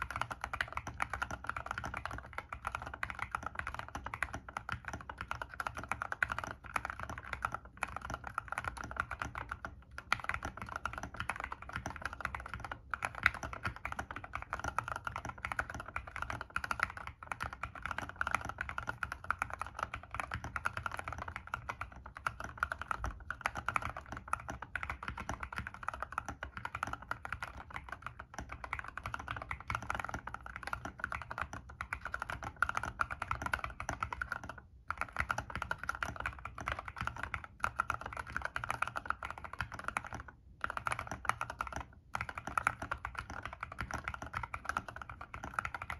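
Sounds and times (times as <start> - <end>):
fast typing on mechanical keyboard: 0.0 - 45.9.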